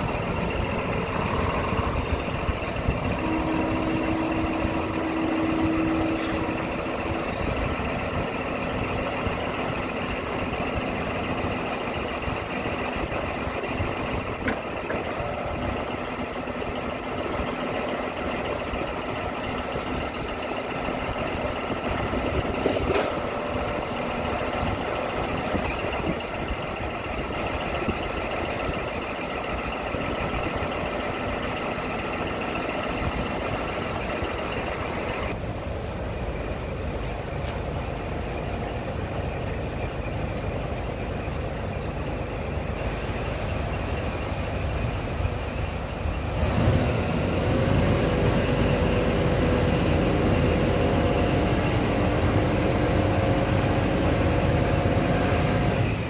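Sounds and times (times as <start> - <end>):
high engine whine: 0.0 - 56.0
truck diesel engine idling: 0.0 - 56.0.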